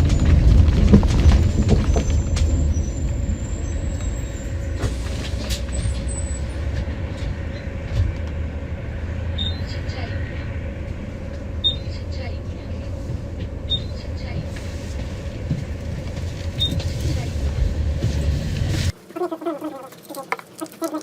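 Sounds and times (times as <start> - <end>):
road vehicle rumbling: 0.0 - 19.2.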